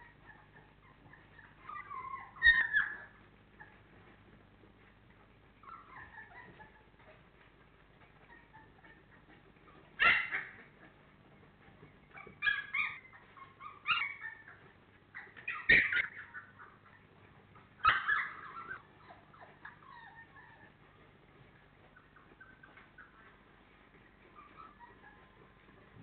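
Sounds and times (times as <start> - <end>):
puppies yipping and whining: 0.0 - 26.0.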